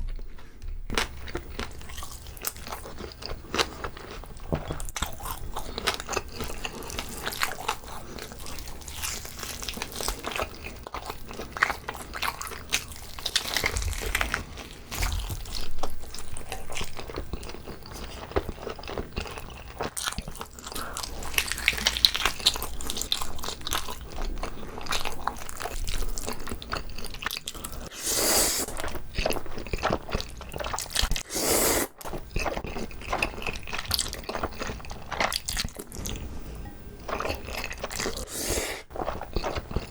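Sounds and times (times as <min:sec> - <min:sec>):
person chewing wetly: 0:00.0 - 0:39.9.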